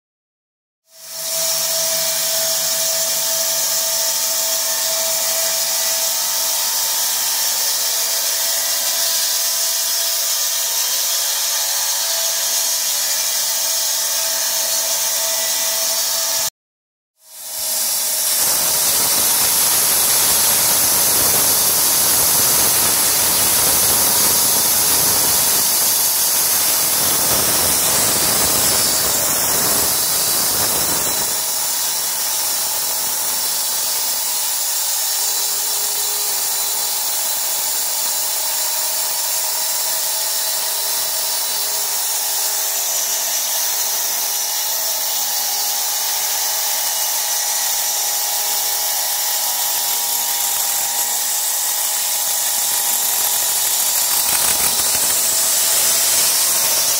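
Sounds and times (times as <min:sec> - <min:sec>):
band saw cutting log: 0:00.9 - 0:16.5, 0:17.3 - 0:56.9.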